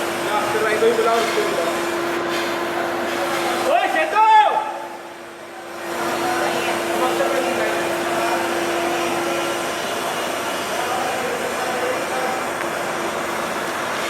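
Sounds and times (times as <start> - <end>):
fan air rushing: 0.0 - 14.0
steady fan hum: 0.0 - 14.0.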